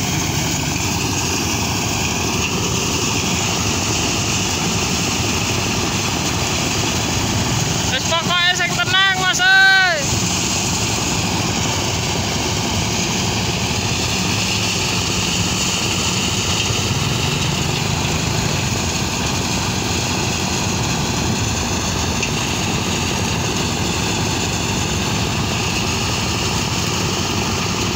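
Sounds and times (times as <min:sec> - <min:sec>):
thresher engine running: 0:00.0 - 0:27.9.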